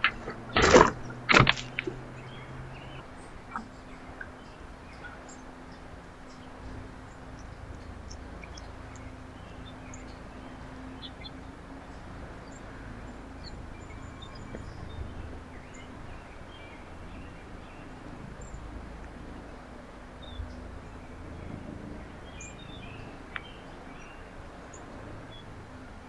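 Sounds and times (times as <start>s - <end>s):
small birds chirping: 0.0s - 18.7s, 20.2s - 25.9s.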